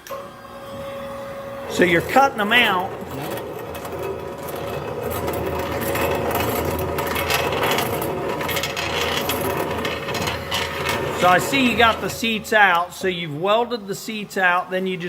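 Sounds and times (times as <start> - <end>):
cutter scraping metal: 0.0 - 12.4
spindle motor hum: 0.0 - 15.0.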